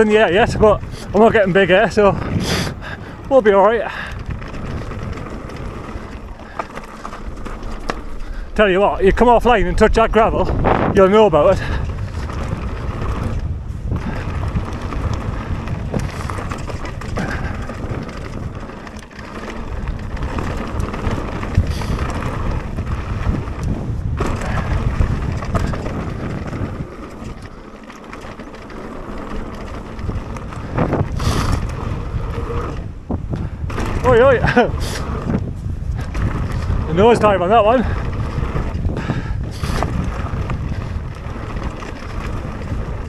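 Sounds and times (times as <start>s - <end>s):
bike tyres rattling on gravel: 0.0s - 43.0s
wind buffeting microphone: 0.0s - 43.0s.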